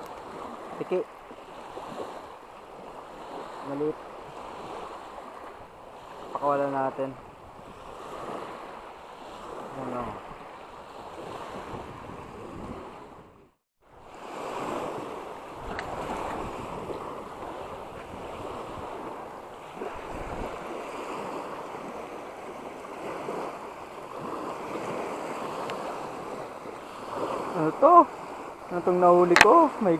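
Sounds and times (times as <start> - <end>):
surf washing over sand: 0.0 - 29.9.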